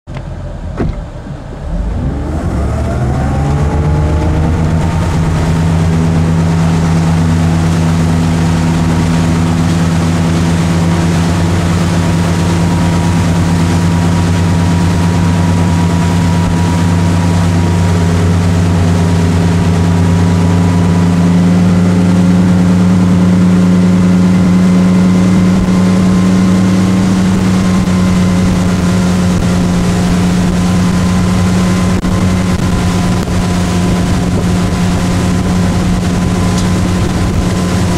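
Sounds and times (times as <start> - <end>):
boat engine revving: 0.1 - 37.9
boat wake splashing: 0.1 - 37.9
wind: 0.1 - 37.9.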